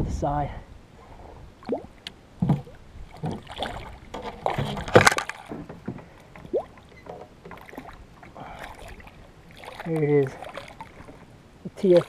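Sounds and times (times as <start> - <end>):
water splashing and sloshing: 1.0 - 12.0.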